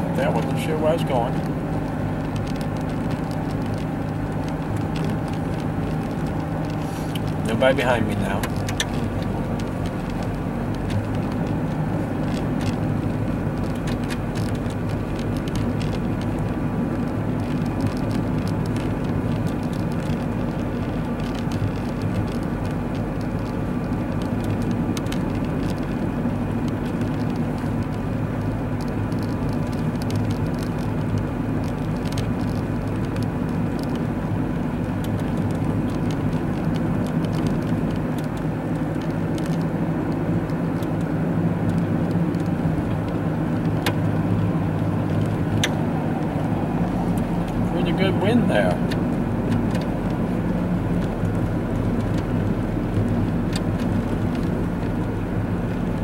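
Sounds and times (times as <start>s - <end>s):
car engine and tyres hum: 0.0s - 56.0s
light ticks: 0.2s - 11.7s, 12.3s - 50.3s, 50.9s - 56.0s.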